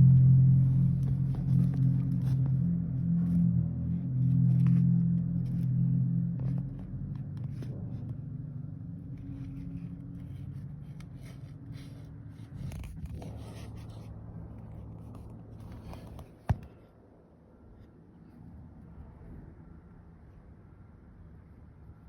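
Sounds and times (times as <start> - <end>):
engine running with low hum: 0.0 - 22.0.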